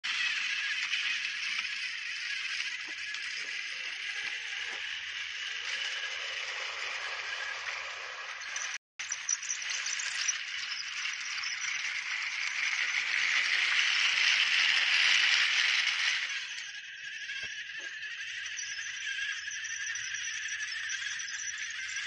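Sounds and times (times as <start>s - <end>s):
toy train motor whirring: 0.0s - 22.0s
toy train wheels rattling: 0.1s - 22.0s.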